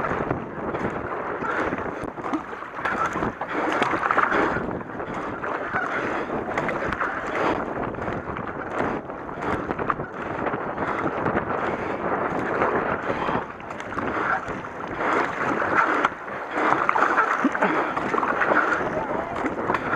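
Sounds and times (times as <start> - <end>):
kayak paddle splashing: 0.0 - 19.9
wind buffeting microphone: 0.0 - 19.9.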